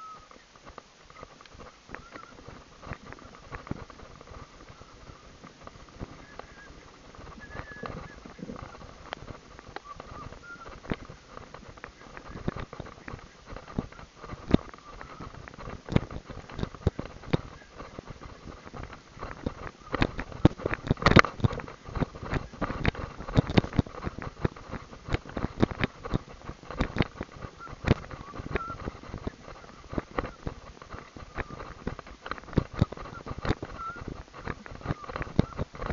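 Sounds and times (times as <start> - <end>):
hooves trotting on dirt track: 0.0 - 35.9.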